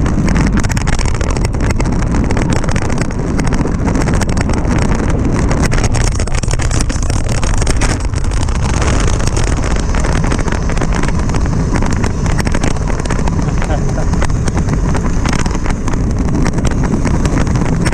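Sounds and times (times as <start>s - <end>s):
bike tyres and frame rattling: 0.0s - 17.9s
wind rushing over microphone: 0.0s - 17.9s.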